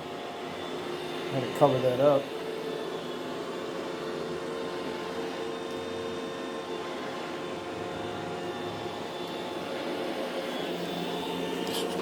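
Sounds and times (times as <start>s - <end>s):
robot vacuum motor whir: 0.5s - 12.0s.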